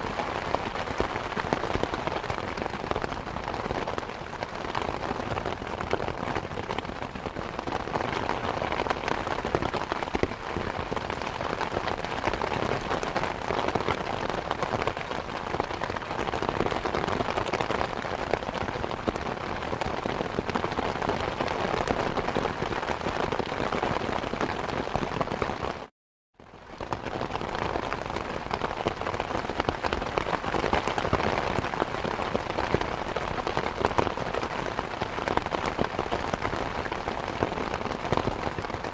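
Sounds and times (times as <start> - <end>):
steady rain falling: 0.0 - 25.9, 26.5 - 38.9.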